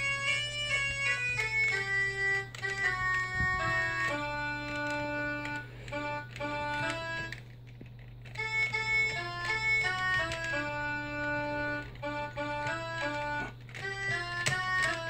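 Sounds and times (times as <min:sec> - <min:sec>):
synthesizer bagpipe melody: 0:00.0 - 0:07.4, 0:08.3 - 0:15.0.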